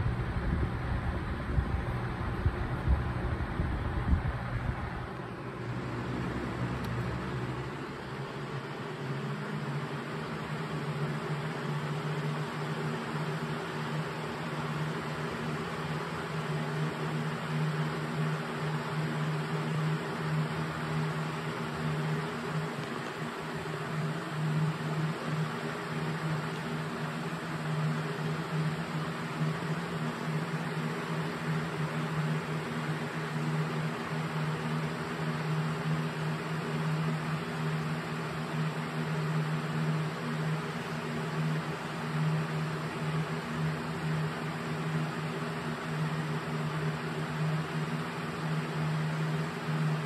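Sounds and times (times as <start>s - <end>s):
box fan running: 0.0s - 50.0s
low motor hum: 0.0s - 50.0s.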